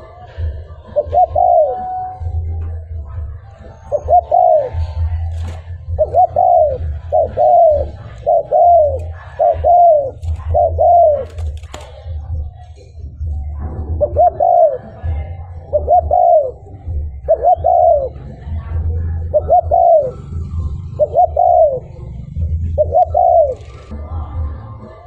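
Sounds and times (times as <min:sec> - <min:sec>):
dove cooing: 0:00.0 - 0:12.6, 0:13.2 - 0:24.0.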